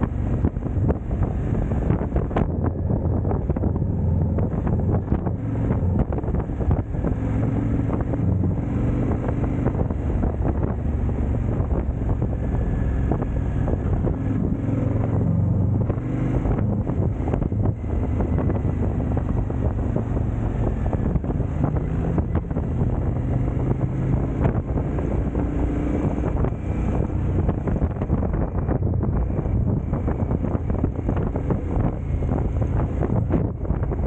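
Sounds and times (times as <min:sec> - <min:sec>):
motorcycle engine revving: 0:00.0 - 0:34.0
wind noise on microphone: 0:00.0 - 0:34.0.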